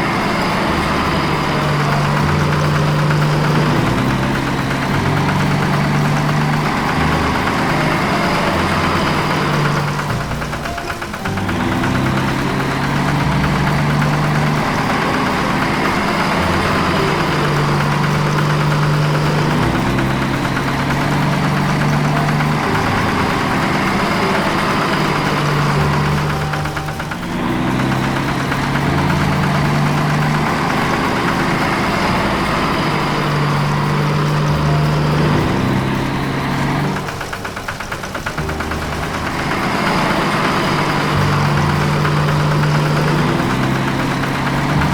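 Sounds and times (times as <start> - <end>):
cartoon vehicle engine running: 0.0 - 44.9.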